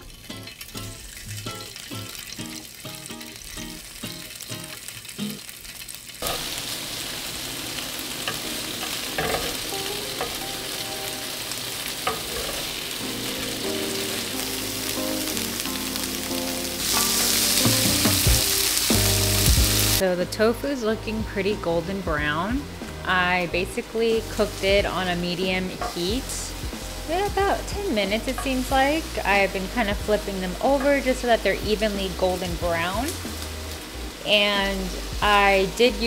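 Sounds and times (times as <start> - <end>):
acoustic guitar music: 0.0 - 5.5, 8.2 - 35.8
tofu sizzling in oil: 0.0 - 36.0.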